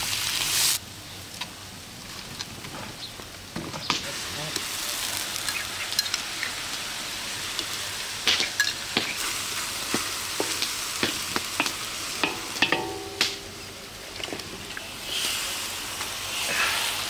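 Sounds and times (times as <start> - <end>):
onions sizzling in a wok: 0.0 - 17.0.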